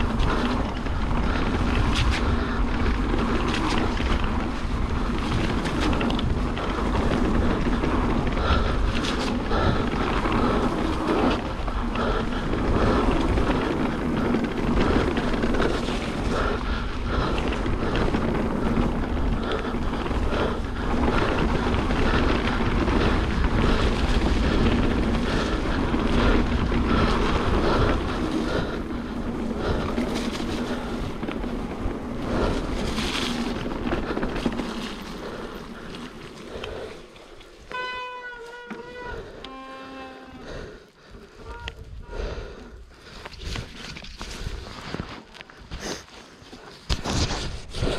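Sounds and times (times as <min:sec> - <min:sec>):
wind buffeting microphone: 0:00.0 - 0:37.6, 0:40.4 - 0:45.9
bike rattling: 0:00.0 - 0:47.9
bike tyres rumbling on trail: 0:00.0 - 0:47.9.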